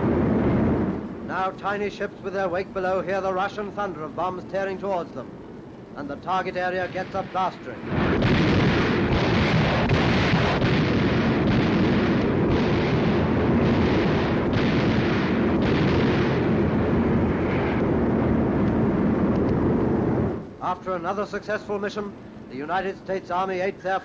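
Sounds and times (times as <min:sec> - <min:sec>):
aerial bombing roar and blasts: 0:00.0 - 0:24.0.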